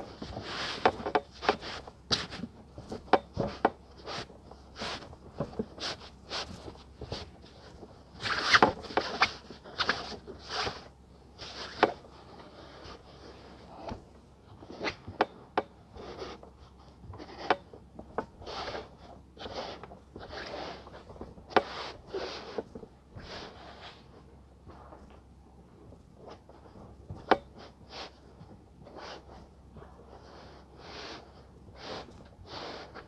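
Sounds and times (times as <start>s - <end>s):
cloth rustling on a table: 0.0s - 33.0s.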